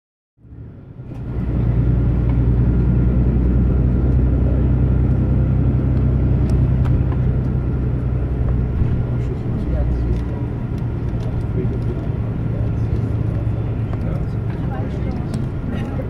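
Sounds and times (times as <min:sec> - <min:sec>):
bus engine drone and road rumble: 0:00.4 - 0:16.0.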